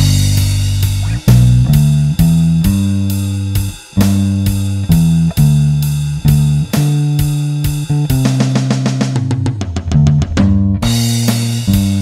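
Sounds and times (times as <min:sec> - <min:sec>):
drums steady beat: 0:00.0 - 0:12.0
electric bass low notes: 0:00.0 - 0:12.0.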